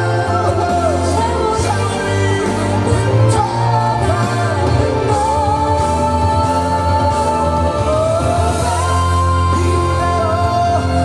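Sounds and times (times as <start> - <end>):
pop ballad over loudspeakers: 0.0 - 11.0.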